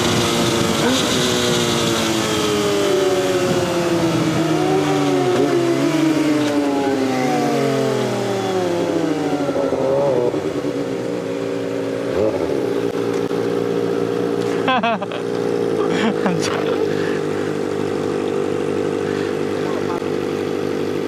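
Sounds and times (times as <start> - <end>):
motorcycle engine while riding: 0.0 - 21.0.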